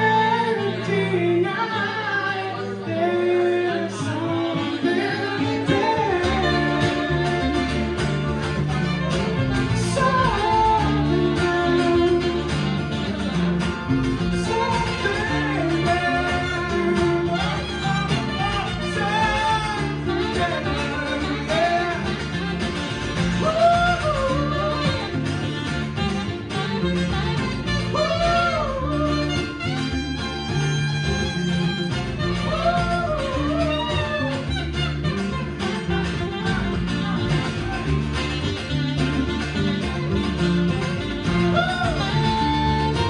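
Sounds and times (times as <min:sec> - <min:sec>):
guitar: 0:00.0 - 0:43.0
live band music: 0:00.0 - 0:43.0
sliding lead melody: 0:00.0 - 0:43.0
low bass line: 0:02.9 - 0:43.0.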